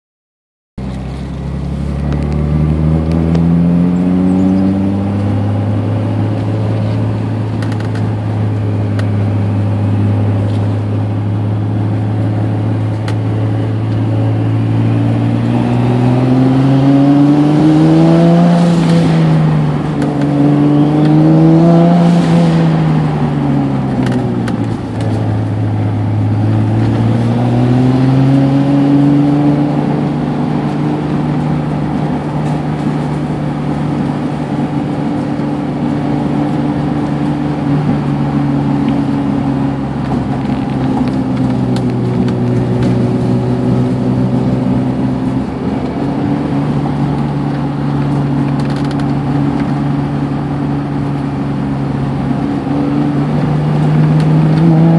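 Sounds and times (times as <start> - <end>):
car engine from inside cabin: 0.8 - 54.9.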